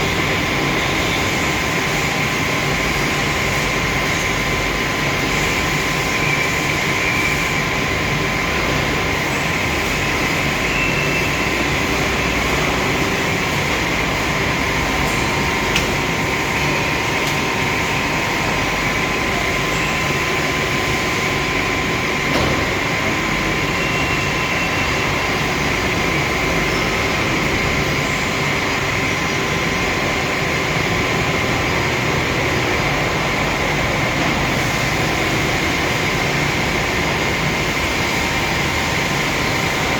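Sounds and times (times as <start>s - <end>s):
machinery running with whining: 0.0s - 39.9s.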